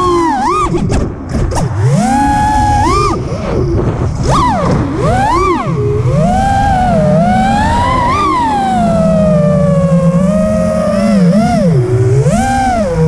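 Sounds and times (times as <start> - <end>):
quadcopter motors whining: 0.0 - 13.0
wind rush: 0.6 - 13.0.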